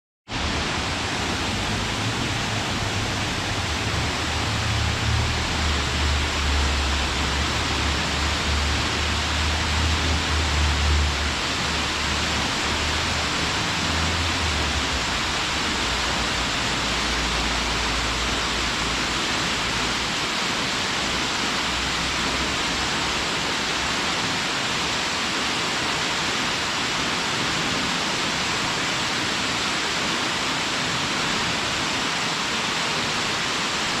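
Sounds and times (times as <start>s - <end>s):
waterfall pouring: 0.4s - 29.9s.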